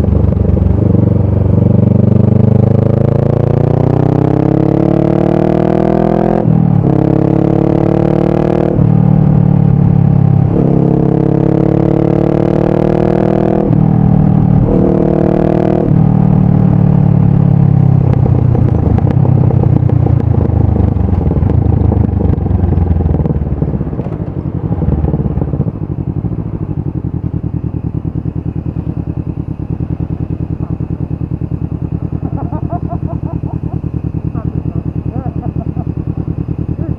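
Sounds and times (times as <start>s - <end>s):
motorcycle engine revving and idling: 0.0s - 36.9s.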